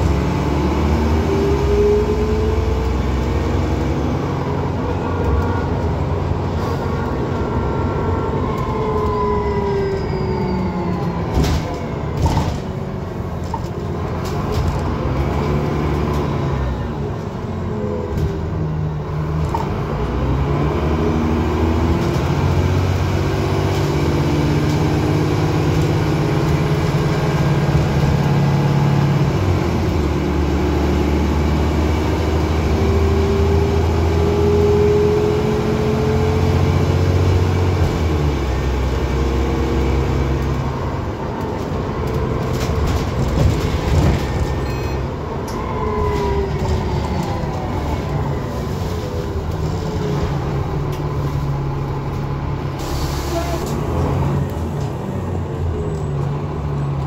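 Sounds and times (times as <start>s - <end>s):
bus diesel engine whine: 0.0s - 57.0s.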